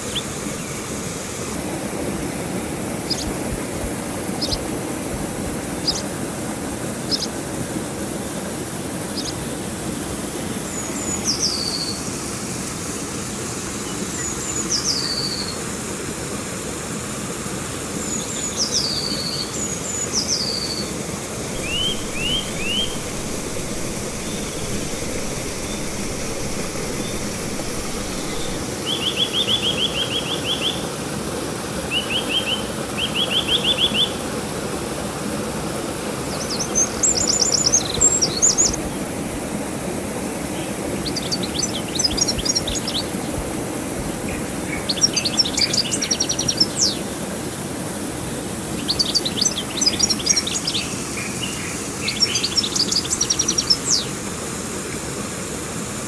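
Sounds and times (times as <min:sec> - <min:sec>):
songbirds calling: 0:00.0 - 0:01.0, 0:02.8 - 0:13.1, 0:13.8 - 0:15.7, 0:17.9 - 0:30.9, 0:31.9 - 0:34.3, 0:36.3 - 0:47.6, 0:48.6 - 0:54.3
river water flowing: 0:00.0 - 0:56.0.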